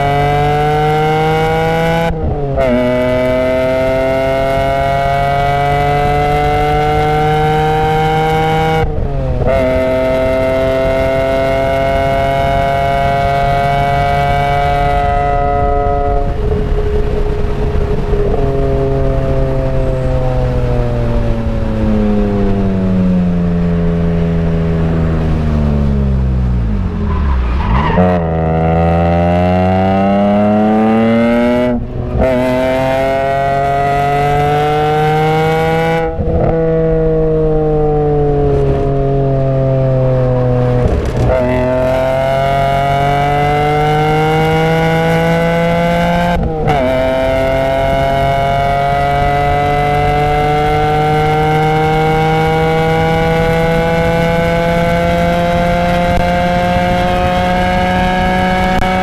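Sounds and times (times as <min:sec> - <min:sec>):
car engine revving in cabin: 0:00.0 - 0:22.3, 0:23.0 - 0:59.0.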